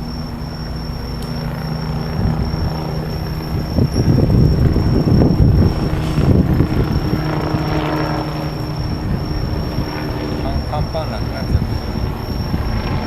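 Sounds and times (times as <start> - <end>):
insects trilling: 0.0 - 13.0
low rumble: 0.0 - 13.0.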